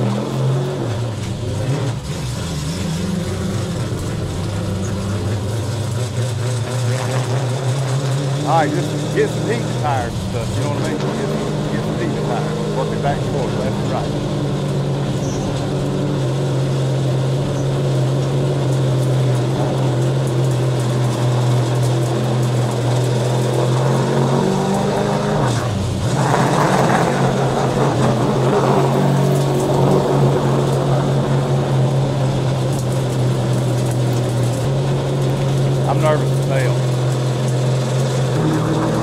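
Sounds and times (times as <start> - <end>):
race car engine running: 0.0 - 39.0.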